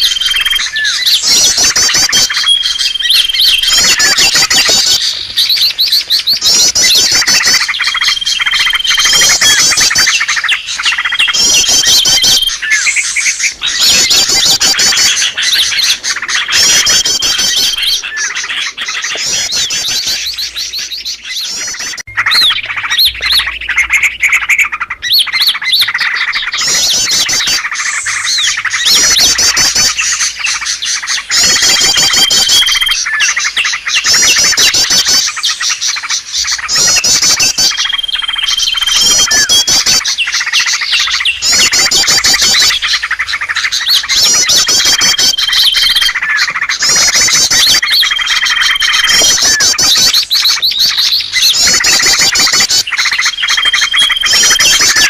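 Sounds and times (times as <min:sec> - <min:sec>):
small songbirds chirping and trilling: 0:00.0 - 0:55.0.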